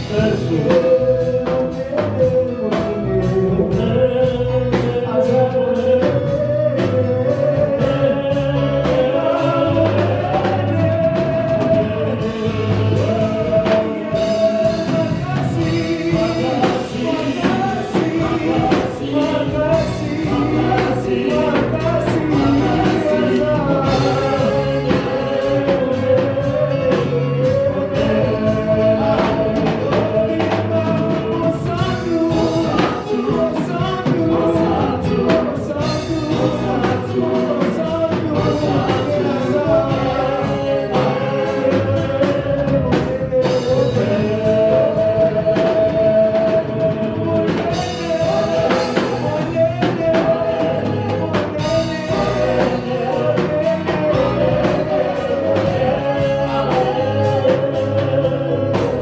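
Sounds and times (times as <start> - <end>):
band playing a steady beat: 0.0 - 59.0
gospel singers: 0.0 - 59.0.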